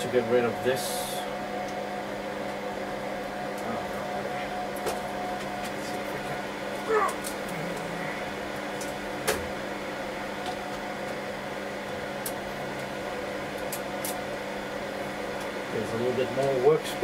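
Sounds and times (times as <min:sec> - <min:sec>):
server fans humming: 0:00.0 - 0:17.0.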